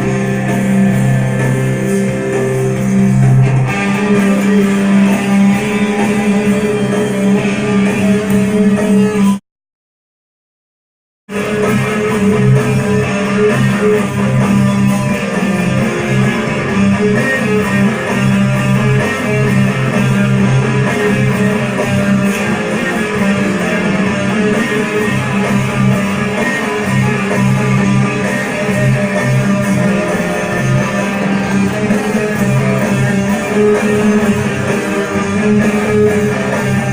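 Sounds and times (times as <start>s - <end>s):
heavy electric guitar riff: 0.0s - 9.4s, 11.3s - 36.9s.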